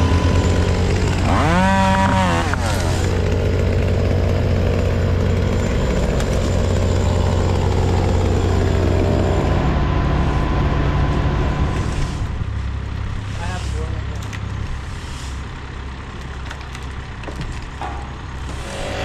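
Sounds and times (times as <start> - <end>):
crane engine running: 0.0 - 19.0.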